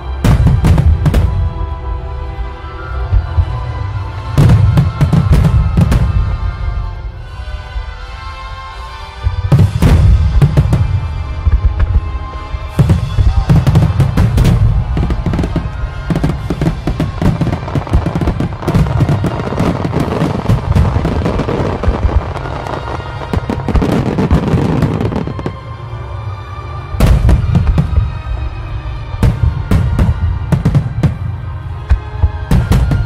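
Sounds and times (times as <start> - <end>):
fireworks bursts and crackling: 0.0 - 33.0
music: 0.0 - 33.0.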